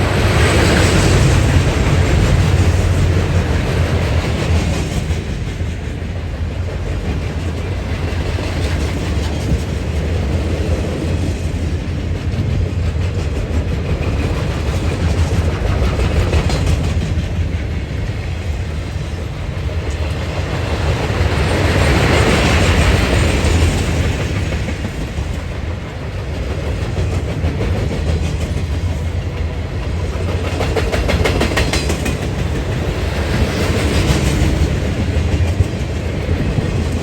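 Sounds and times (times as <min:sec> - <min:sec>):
train rumbling past: 0:00.0 - 0:37.0.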